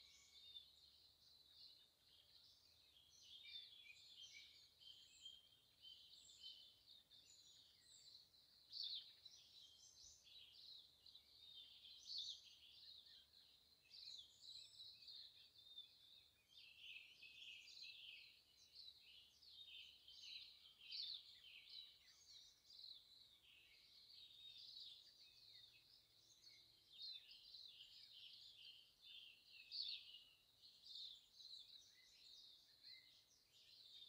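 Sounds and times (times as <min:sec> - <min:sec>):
faint birdsong chorus: 0:00.0 - 0:34.0.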